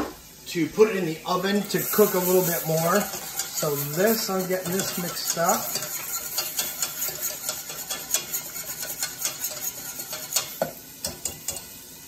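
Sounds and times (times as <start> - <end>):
whisk scraping in saucepan: 1.3 - 11.7.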